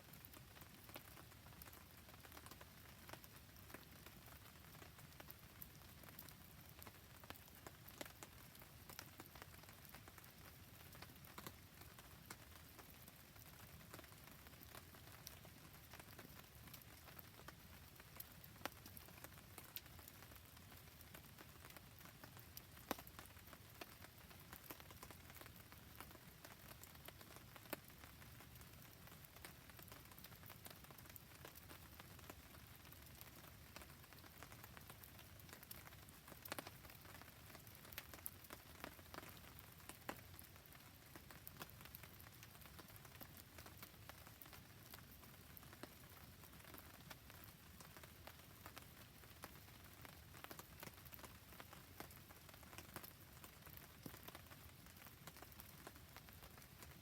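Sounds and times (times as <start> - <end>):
rain pattering: 0.0 - 57.0
campfire crackling: 0.1 - 57.0.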